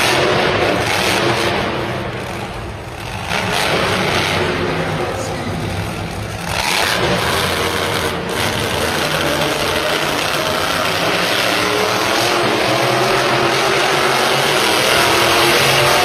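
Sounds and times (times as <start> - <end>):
monster truck engine running hard: 0.0 - 16.0.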